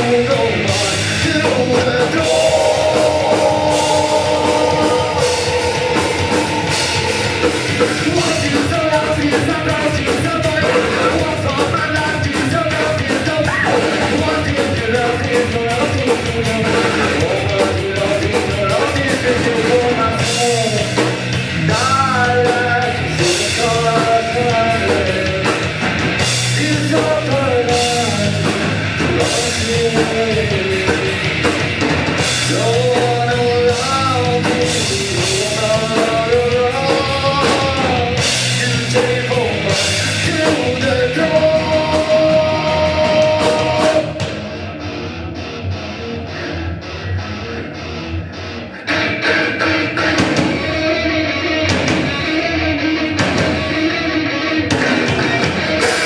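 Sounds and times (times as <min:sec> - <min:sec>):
live rock band: 0:00.0 - 0:56.0.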